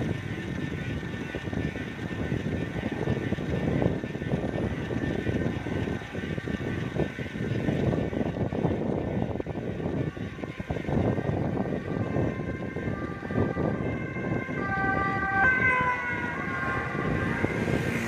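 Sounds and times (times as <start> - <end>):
road noise: 0.0 - 18.0
wind buffeting microphone: 0.0 - 18.0.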